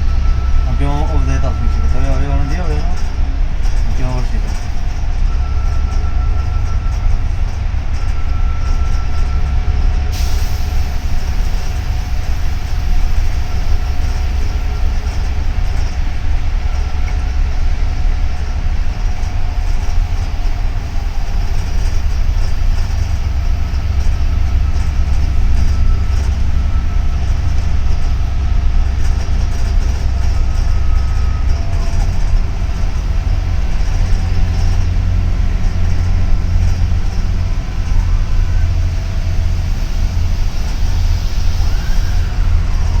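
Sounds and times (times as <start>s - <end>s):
bus engine and road noise: 0.0s - 43.0s.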